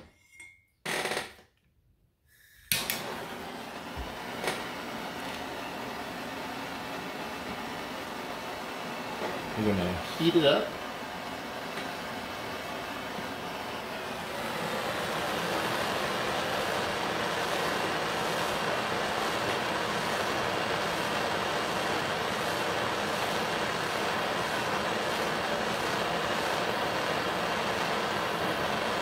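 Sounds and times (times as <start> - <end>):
propane torch hissing: 2.3 - 29.0.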